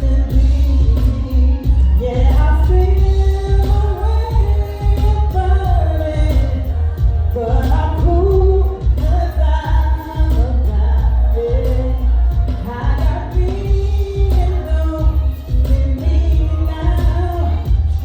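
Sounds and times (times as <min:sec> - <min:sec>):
live band with heavy bass: 0:00.0 - 0:18.0
person singing: 0:00.0 - 0:18.0.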